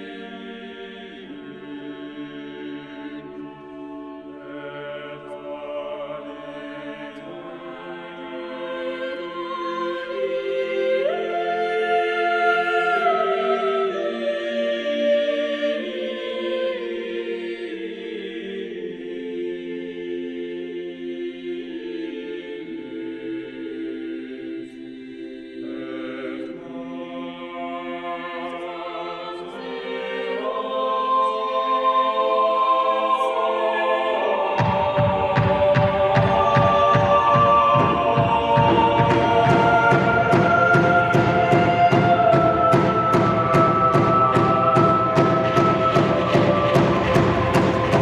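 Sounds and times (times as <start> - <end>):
choir singing long chords: 0.0 - 48.0.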